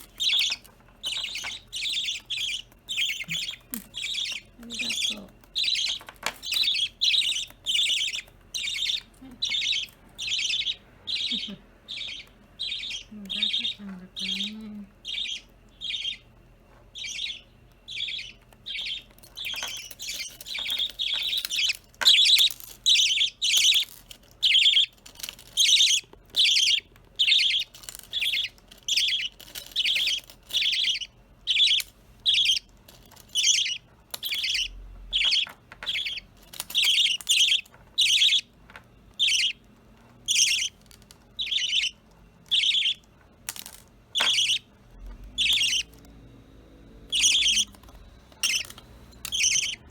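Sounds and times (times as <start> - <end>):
budgerigars chirping: 0.0 - 16.3, 17.0 - 32.7, 33.3 - 46.1, 47.0 - 49.9.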